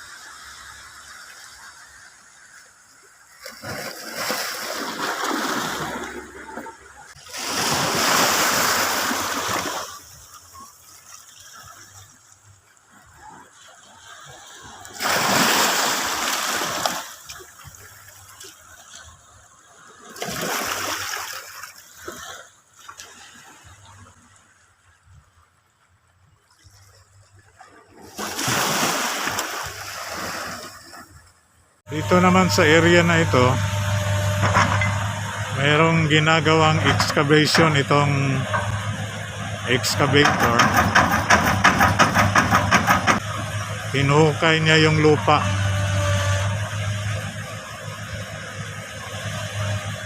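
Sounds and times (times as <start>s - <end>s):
water splashing and rushing: 0.0s - 50.0s.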